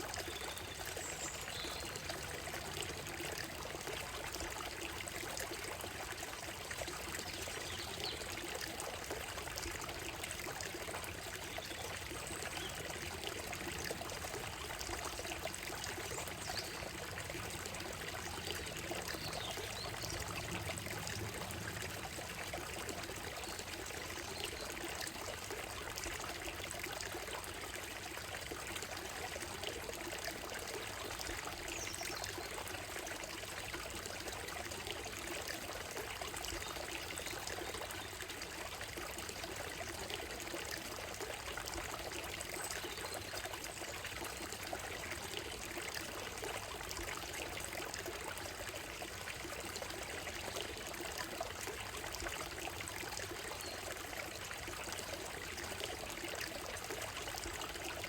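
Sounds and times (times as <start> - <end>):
stream babbling over stones: 0.0 - 58.0.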